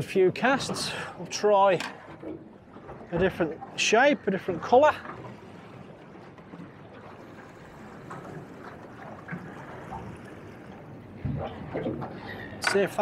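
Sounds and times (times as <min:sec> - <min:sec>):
choppy water against boat hull: 0:00.0 - 0:13.0
wind: 0:00.0 - 0:13.0.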